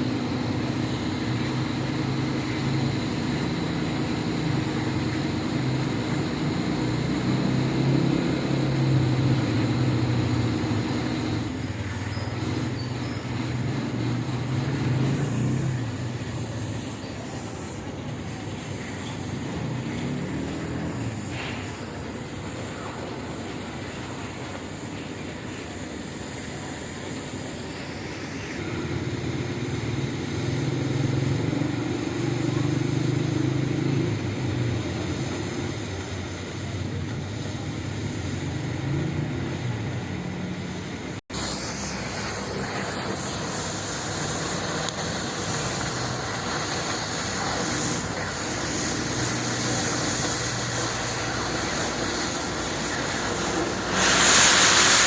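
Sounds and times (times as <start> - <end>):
cutting torch hissing: 0.0 - 55.0.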